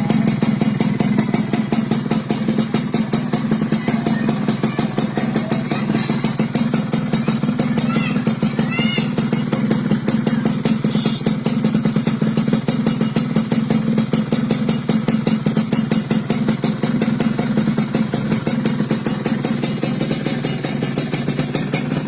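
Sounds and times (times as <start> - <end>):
two-stroke engine idling: 0.0 - 22.0.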